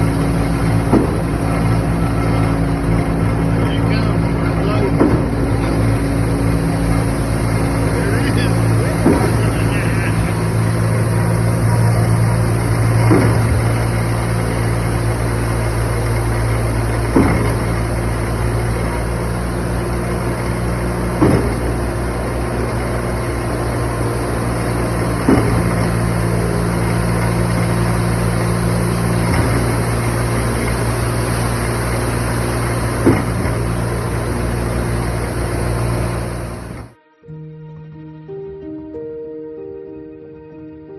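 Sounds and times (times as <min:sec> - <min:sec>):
pump piston knock: 0:00.0 - 0:36.9
diesel engine running: 0:00.0 - 0:37.0.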